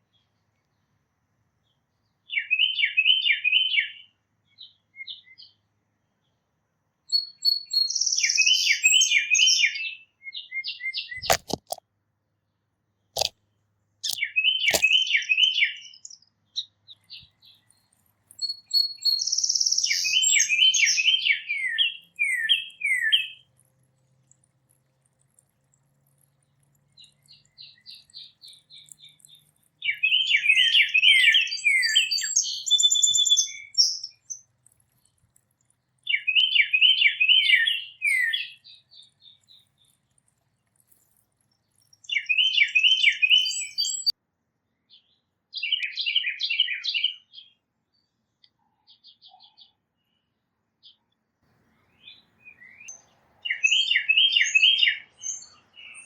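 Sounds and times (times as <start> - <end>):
songbird trilled song: 1.6 - 5.6, 7.1 - 11.6, 14.0 - 44.2, 44.9 - 50.2, 51.7 - 56.0.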